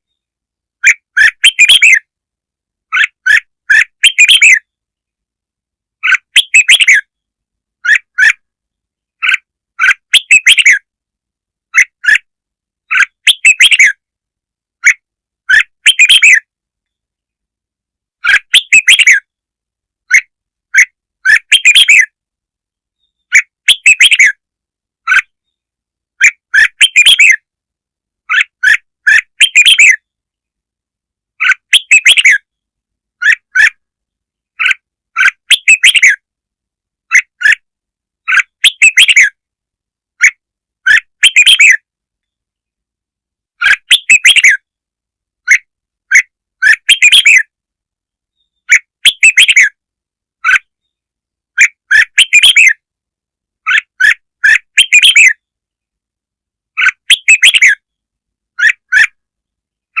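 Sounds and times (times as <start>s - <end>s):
bird chirping song: 0.0s - 2.2s, 2.8s - 11.0s, 11.6s - 14.2s, 14.8s - 17.5s, 18.2s - 19.4s, 20.0s - 27.6s, 28.2s - 30.6s, 31.3s - 36.4s, 37.0s - 39.5s, 40.2s - 42.8s, 43.6s - 44.8s, 45.4s - 47.6s, 48.2s - 52.9s, 53.6s - 55.9s, 56.7s - 60.0s.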